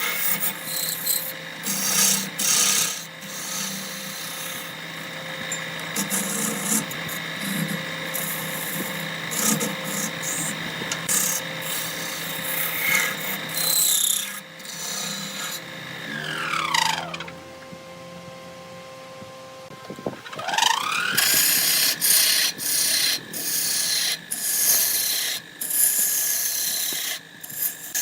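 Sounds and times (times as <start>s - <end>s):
spinning wood being scraped: 0.0s - 17.4s, 19.9s - 28.0s
wood lathe humming: 0.0s - 28.0s.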